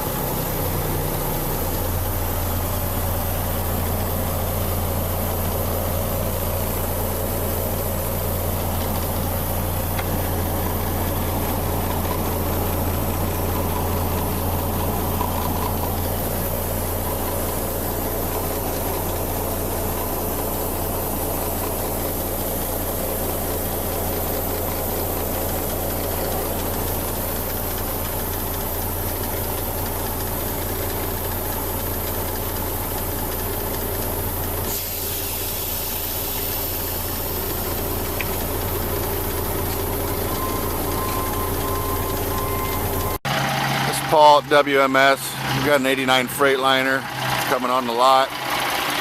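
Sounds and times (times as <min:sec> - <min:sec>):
diesel truck engine idling: 0:00.0 - 0:49.0
constant hiss: 0:00.6 - 0:43.1.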